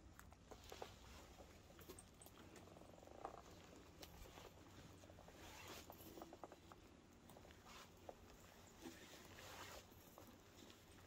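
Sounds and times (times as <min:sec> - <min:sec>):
soft clicks and rustles: 0:00.0 - 0:11.0.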